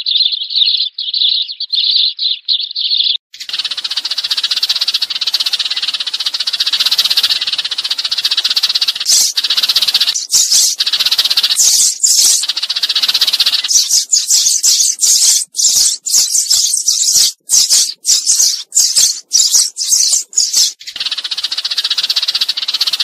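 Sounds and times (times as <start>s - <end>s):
sparrows chattering: 0.0s - 23.0s.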